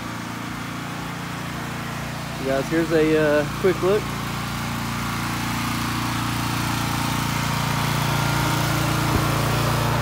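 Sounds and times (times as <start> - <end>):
pressure washer engine running: 0.0 - 10.0.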